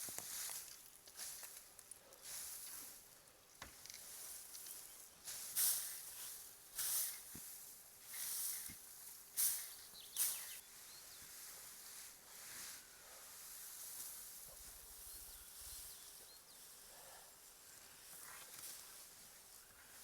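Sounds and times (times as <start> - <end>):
dry hay rustling: 0.0 - 20.0.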